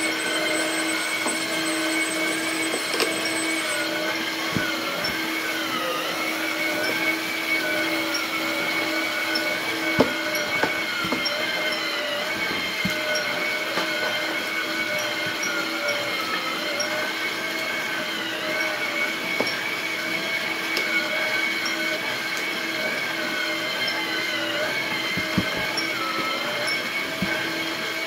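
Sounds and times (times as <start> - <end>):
toy truck motor whining: 0.0 - 28.0.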